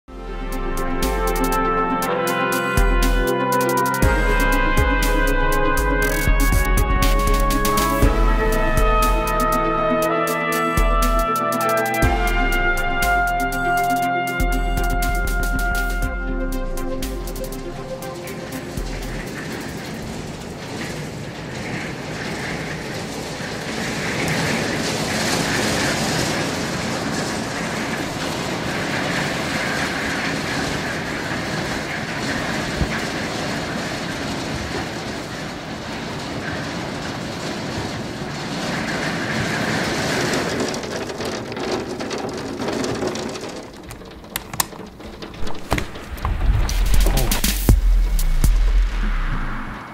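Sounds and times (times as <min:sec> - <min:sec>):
hail pattering on hard surfaces: 0:01.0 - 0:49.0.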